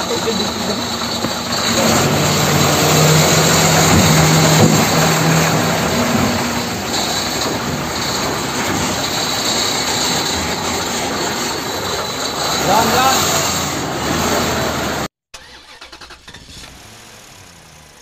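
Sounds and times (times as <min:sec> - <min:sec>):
vehicle engine running: 0:00.0 - 0:15.1, 0:16.2 - 0:18.0.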